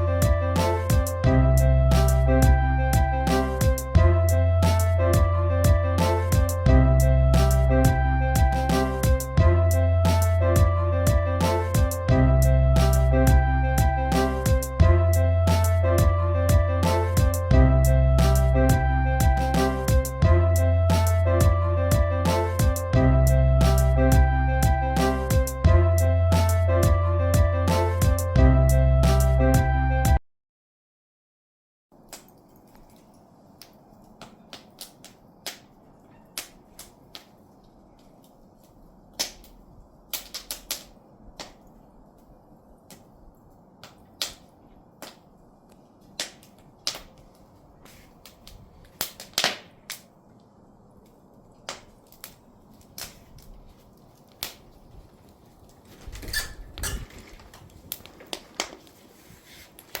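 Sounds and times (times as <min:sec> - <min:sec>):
fire crackling and popping: 0:00.0 - 0:27.0, 0:32.0 - 1:00.0.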